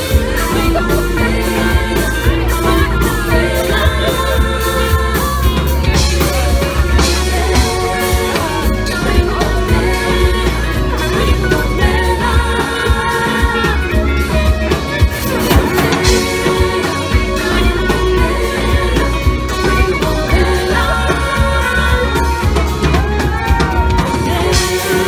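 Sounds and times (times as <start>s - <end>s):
bass line: 0.0s - 25.0s
drums playing dance beat: 0.0s - 25.0s
electric guitar: 0.0s - 25.0s
live band playing upbeat pop: 0.0s - 25.0s
person singing: 0.0s - 25.0s.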